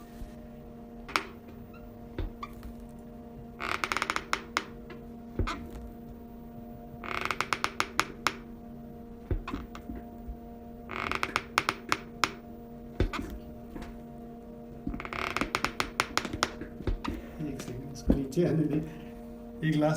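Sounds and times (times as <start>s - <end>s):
steady low hum: 0.0s - 19.9s
chair creaking: 1.0s - 6.2s, 6.9s - 8.5s, 9.2s - 14.1s, 14.7s - 19.2s.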